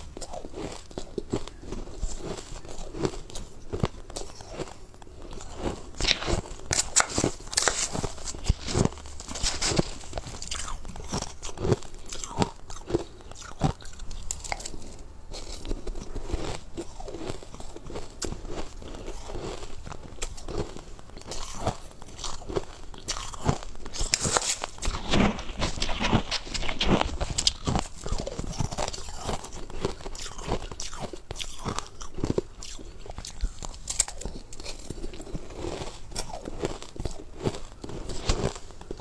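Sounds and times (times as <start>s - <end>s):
ice crunching in mouth: 0.0s - 39.0s.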